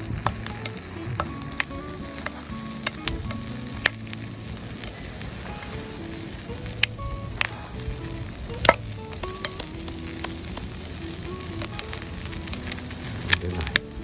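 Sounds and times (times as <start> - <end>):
bacon sizzling in a pan: 0.0 - 14.0
fat popping: 0.0 - 14.0.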